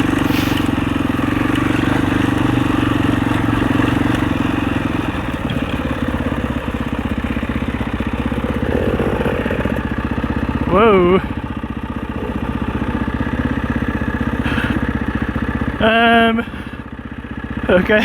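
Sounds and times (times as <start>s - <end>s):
dirt bike engine at low revs: 0.0s - 18.0s.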